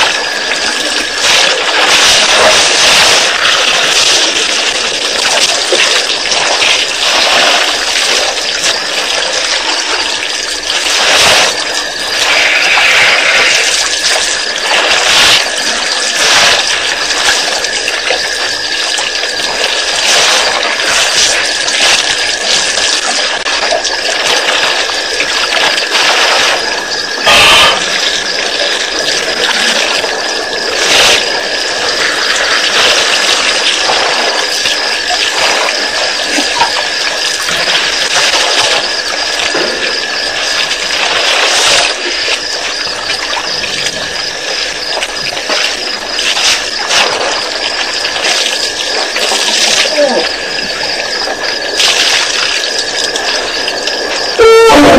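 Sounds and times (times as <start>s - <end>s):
water splashing and sloshing: 0.0s - 54.9s.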